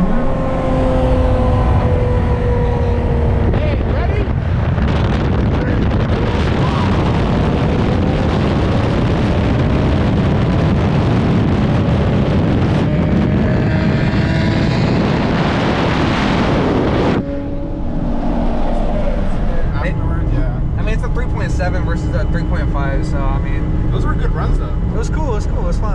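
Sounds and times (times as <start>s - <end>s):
cars accelerating at full throttle: 0.0s - 25.9s
wind rush: 0.0s - 25.9s.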